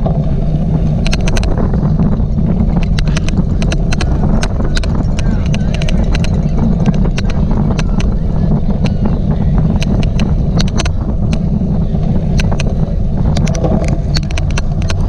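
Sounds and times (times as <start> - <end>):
sharp irregular clicks: 0.0 - 15.0
tyres on rough ground: 0.0 - 15.0
wind rumble on microphone: 0.0 - 15.0.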